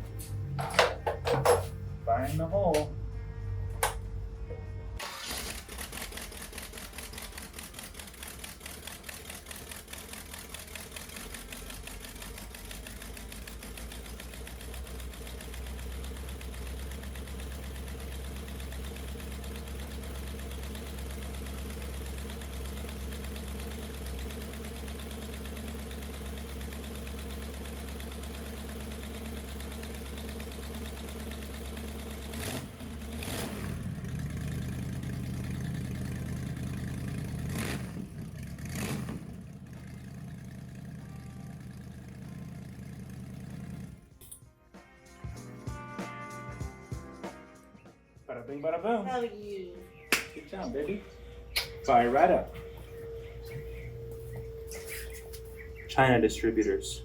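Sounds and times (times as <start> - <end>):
engine running: 0.0 - 44.4, 49.4 - 57.0.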